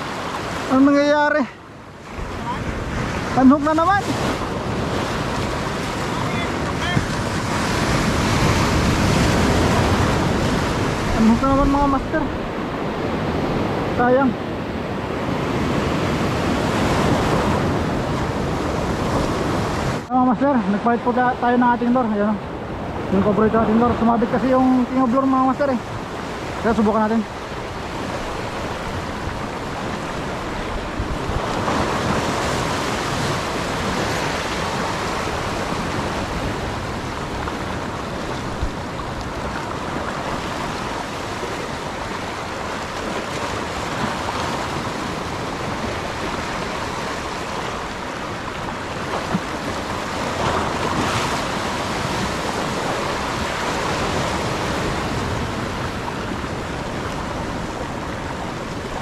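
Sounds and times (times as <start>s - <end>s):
surf breaking over rocks: 0.0s - 59.0s.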